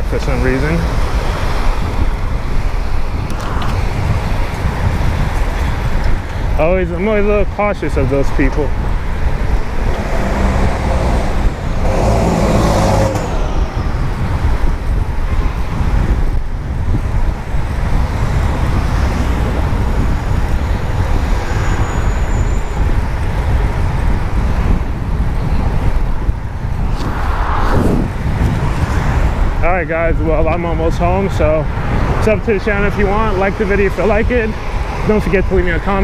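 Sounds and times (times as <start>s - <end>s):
motor vehicles passing close by: 0.0s - 36.0s
steady low rumble: 0.0s - 36.0s.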